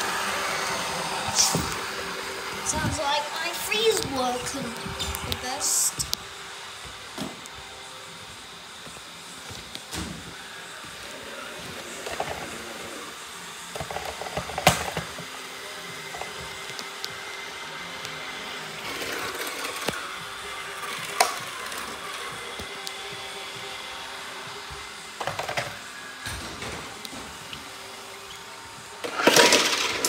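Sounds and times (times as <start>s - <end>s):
robot floor cleaners buzzing: 0.0s - 30.0s.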